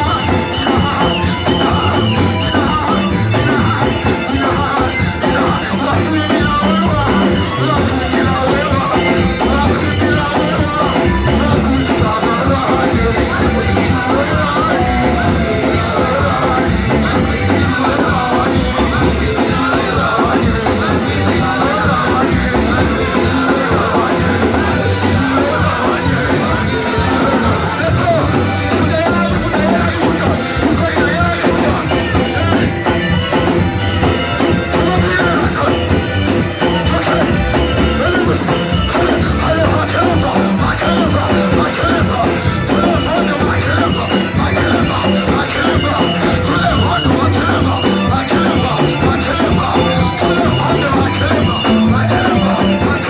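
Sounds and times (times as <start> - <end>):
singing: 0.0 - 53.0
worship band playing: 0.0 - 53.0.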